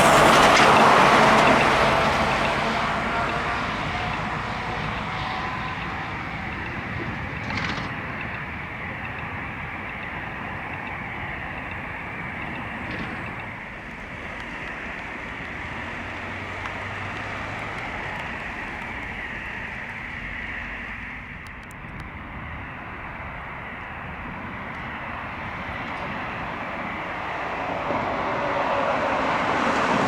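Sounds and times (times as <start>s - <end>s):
vehicle engines running: 0.0s - 30.0s.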